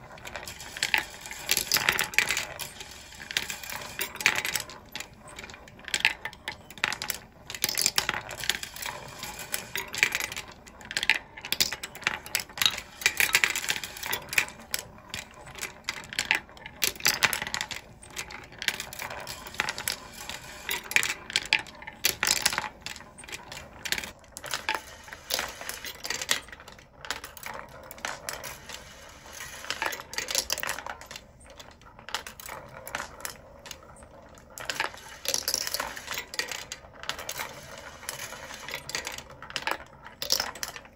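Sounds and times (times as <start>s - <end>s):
marbles clattering on tracks: 0.0s - 40.9s.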